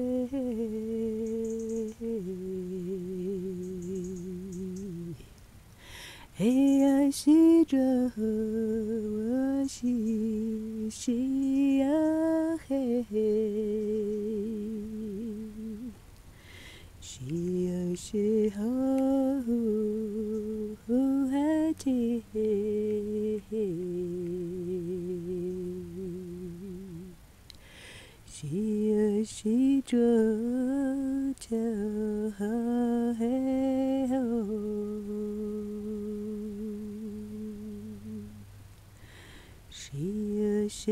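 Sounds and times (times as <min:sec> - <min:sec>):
person humming: 0:00.0 - 0:38.5.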